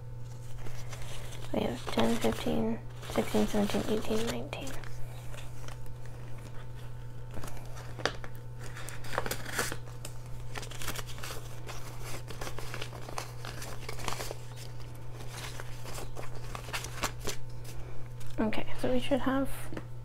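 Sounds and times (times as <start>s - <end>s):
banknotes rustling: 0.2s - 18.4s
plastic pocket crinkling: 0.3s - 18.4s.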